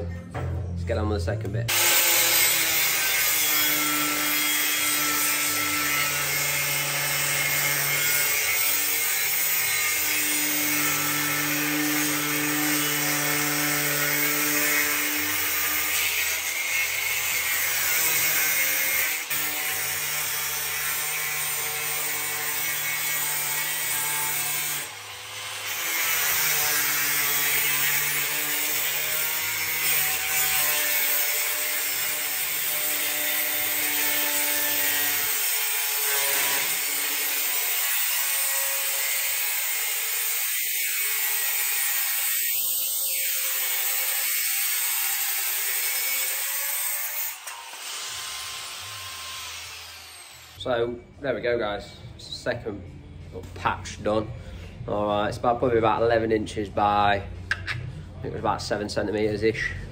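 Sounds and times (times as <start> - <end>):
angle grinder cutting steel: 1.7 - 50.7.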